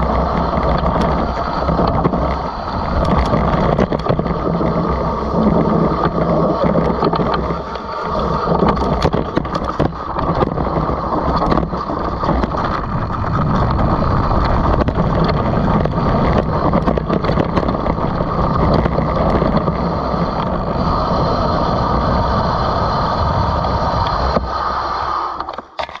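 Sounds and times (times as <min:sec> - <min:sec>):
bike frame and chain rattling: 0:00.0 - 0:24.2
wind rushing over microphone: 0:00.0 - 0:25.5
bike tyres rolling on dirt: 0:00.0 - 0:25.8.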